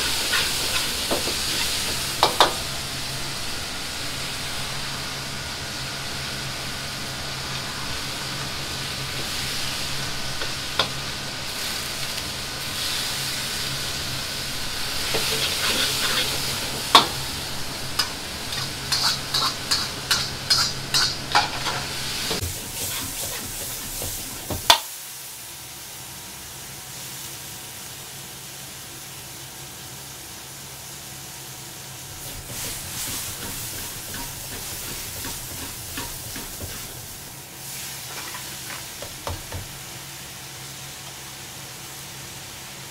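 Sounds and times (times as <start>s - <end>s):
food sizzling in a wok: 0.0s - 42.9s
gas burner noise: 0.0s - 42.9s.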